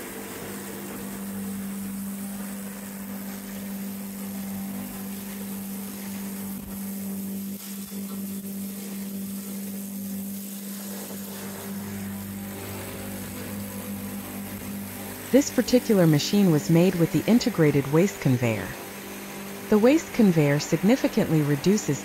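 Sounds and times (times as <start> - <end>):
cutter hissing through wood: 0.0 - 22.0
log lathe motor humming: 0.0 - 22.0.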